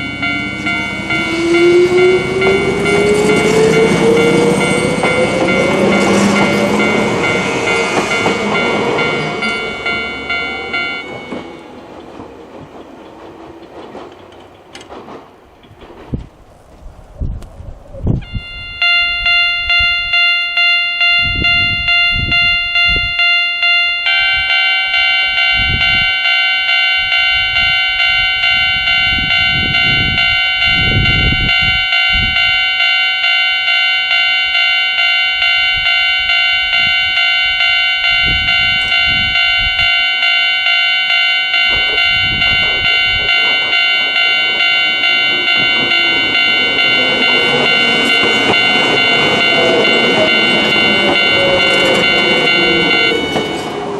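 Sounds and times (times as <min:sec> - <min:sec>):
level-crossing alarm bell dinging: 0:00.0 - 0:12.7, 0:18.2 - 0:53.9
wind buffeting microphone: 0:00.0 - 0:20.2, 0:21.0 - 0:23.3, 0:24.0 - 0:26.2, 0:27.0 - 0:32.7, 0:35.4 - 0:40.0, 0:41.6 - 0:53.9.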